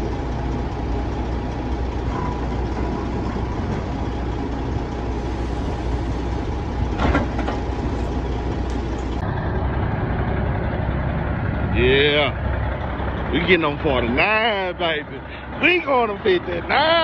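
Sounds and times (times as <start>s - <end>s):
semi truck idling: 0.0s - 17.0s
truck and loader engines running: 0.0s - 17.0s.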